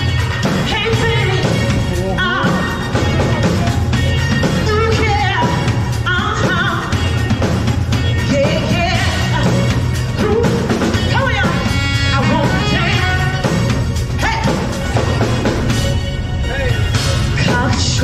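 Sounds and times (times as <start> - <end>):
woman singing: 0.0 - 15.3, 17.3 - 18.0
bass: 0.0 - 18.0
drum kit: 0.0 - 18.0
guitar: 0.0 - 18.0.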